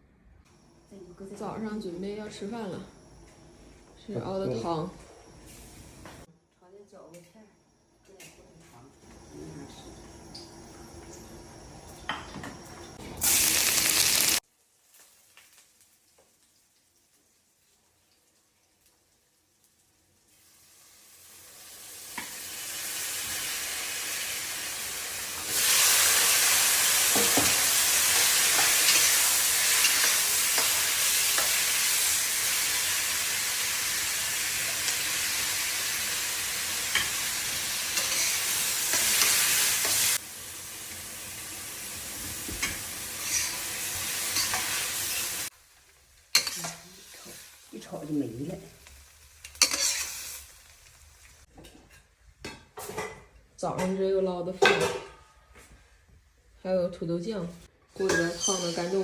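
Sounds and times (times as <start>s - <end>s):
stir-fry sizzling in a pan: 9.0s - 56.1s, 57.5s - 59.0s.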